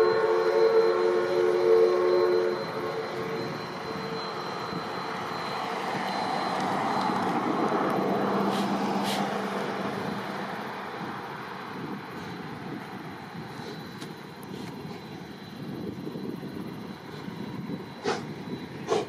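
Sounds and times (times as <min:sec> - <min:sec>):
steam train roaring past: 0:00.0 - 0:19.0.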